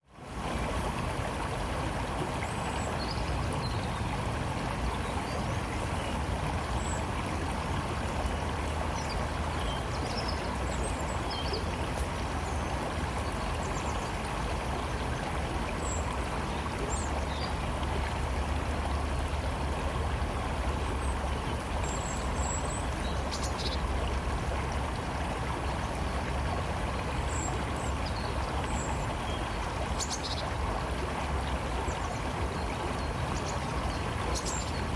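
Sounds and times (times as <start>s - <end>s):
river flowing: 0.0s - 34.9s.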